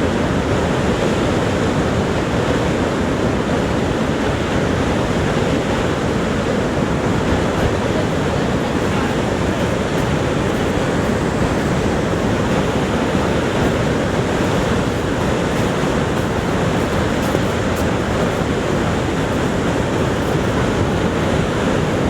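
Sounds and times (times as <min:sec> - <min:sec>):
waterfall rushing: 0:02.9 - 0:22.0.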